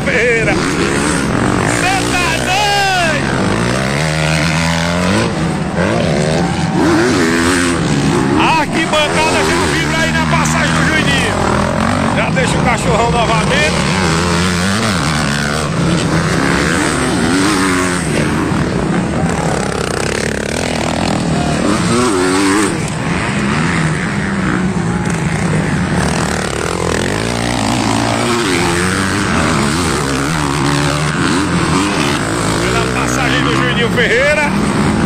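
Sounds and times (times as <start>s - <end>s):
motocross bike engines revving: 0.0s - 35.0s.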